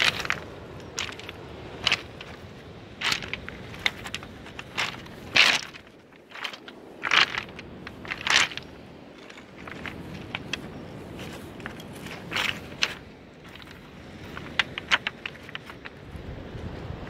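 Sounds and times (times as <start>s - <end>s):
footsteps crunching on pebbles: 0.0s - 16.2s.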